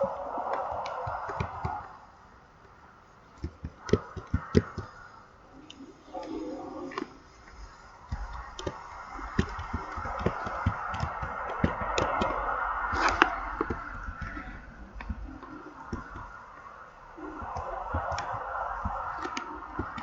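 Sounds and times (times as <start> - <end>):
ocean waves rushing: 0.0 - 3.0, 4.0 - 20.0
sharp clicks: 2.6 - 20.0.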